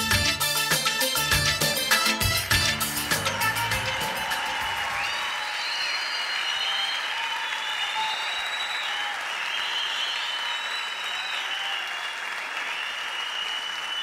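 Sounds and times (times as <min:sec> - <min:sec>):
audience applauding: 0:01.9 - 0:14.0.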